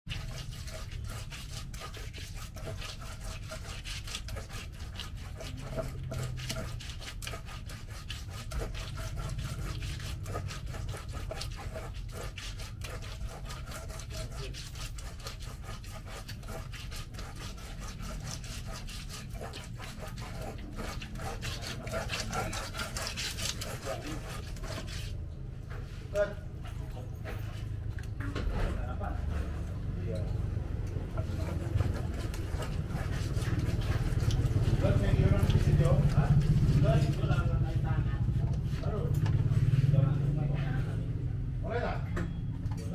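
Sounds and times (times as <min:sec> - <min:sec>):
pestle scraping stone mortar: 0:00.0 - 0:26.0, 0:26.6 - 0:41.2.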